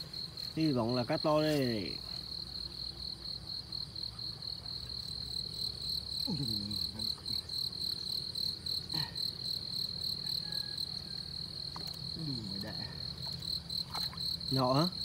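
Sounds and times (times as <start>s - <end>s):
insect trill chorus: 0.0s - 15.0s.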